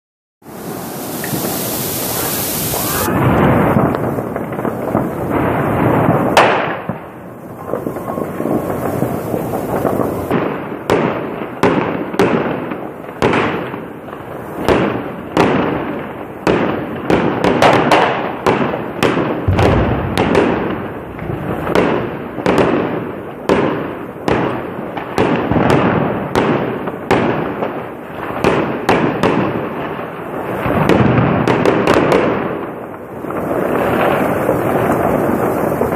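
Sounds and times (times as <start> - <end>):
fireworks bangs: 0.4 - 35.9
fireworks crackling: 0.4 - 35.9.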